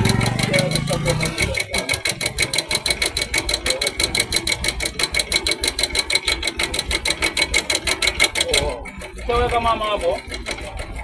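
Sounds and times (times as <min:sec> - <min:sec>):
engine idling with mechanical clatter: 0:00.0 - 0:11.0.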